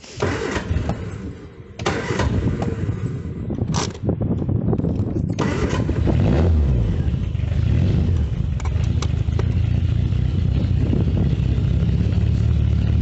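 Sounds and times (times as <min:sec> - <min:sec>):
rough car engine running: 0:00.0 - 0:13.0.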